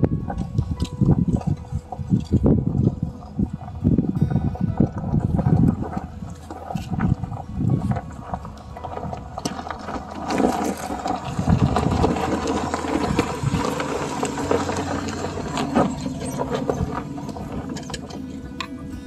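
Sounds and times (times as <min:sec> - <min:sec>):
engine running at low revs: 0:00.0 - 0:19.0
tyres crunching over loose stones: 0:00.0 - 0:19.0.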